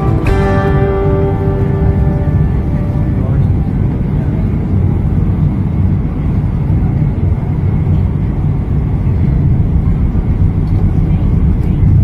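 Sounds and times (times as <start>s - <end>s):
train rumble from inside car: 0.0s - 12.0s.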